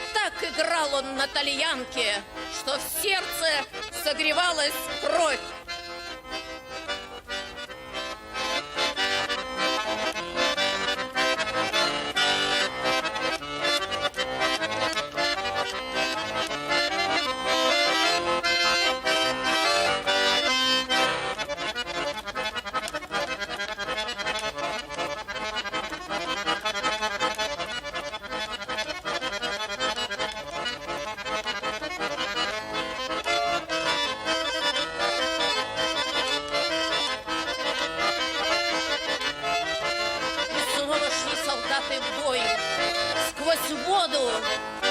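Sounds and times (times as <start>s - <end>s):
accordion playing: 0.0s - 44.9s.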